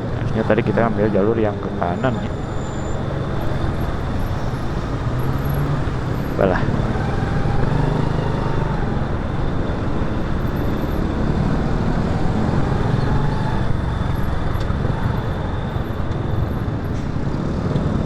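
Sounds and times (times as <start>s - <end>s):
rumble of vehicle engines: 0.0s - 18.0s.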